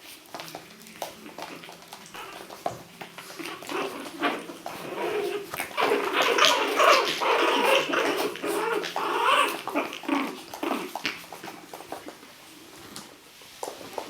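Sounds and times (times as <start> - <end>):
puppies growling and whimpering: 1.0 - 13.0.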